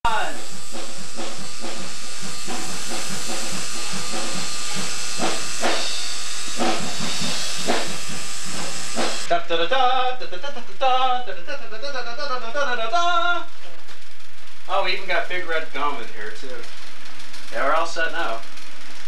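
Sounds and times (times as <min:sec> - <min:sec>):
loud steady hiss: 0:00.0 - 0:19.0.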